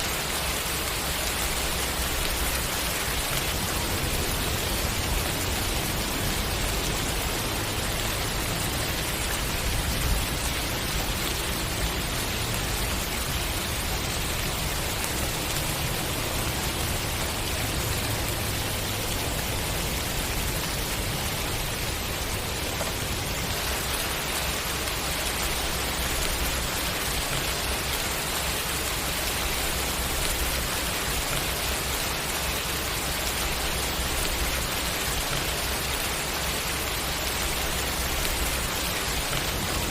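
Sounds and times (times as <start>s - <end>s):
louder raindrops: 0.0s - 39.9s
steady rainfall: 0.0s - 39.9s.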